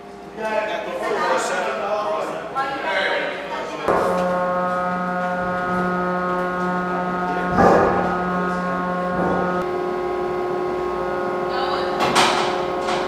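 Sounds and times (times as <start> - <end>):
ship machinery hum: 0.0 - 13.0.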